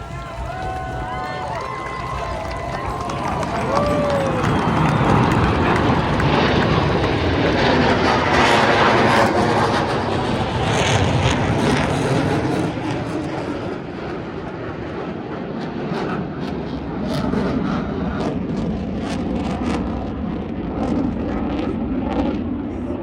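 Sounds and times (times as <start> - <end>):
aircraft flying overhead: 0.0 - 23.0.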